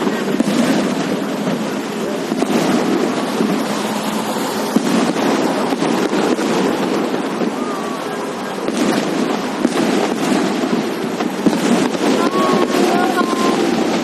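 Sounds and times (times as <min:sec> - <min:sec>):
fireworks popping and crackling: 0:00.0 - 0:14.0
rumbling wash of noise: 0:00.0 - 0:14.0.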